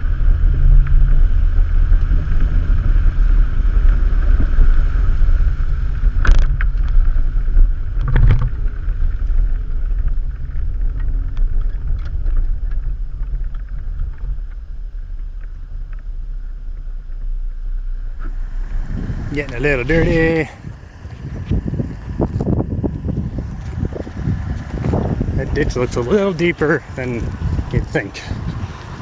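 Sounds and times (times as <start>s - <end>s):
engine and tyres rumbling: 0.0s - 29.0s.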